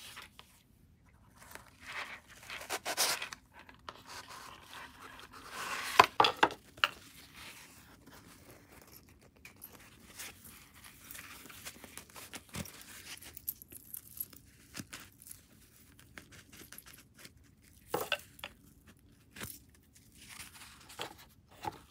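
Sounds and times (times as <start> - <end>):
hands rustling jewellery box: 1.4 - 21.9.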